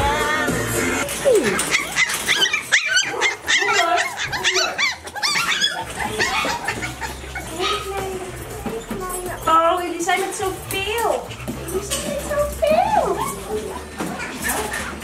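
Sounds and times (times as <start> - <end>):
puppies yipping and barking: 1.0 - 15.0.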